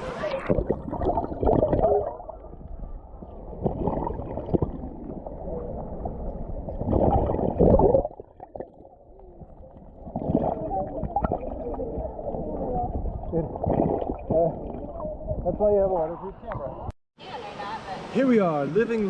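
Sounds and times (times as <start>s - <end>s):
underwater river gurgling: 0.0s - 16.9s.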